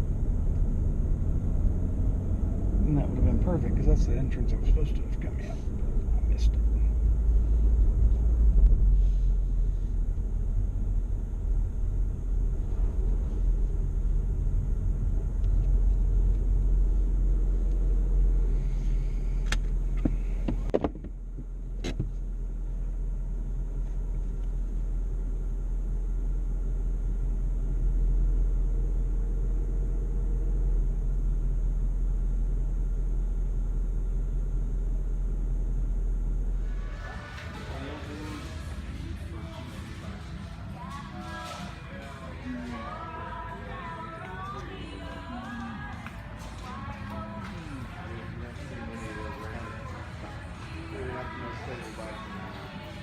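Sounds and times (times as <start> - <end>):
vehicle rumble: 0.0 - 53.0.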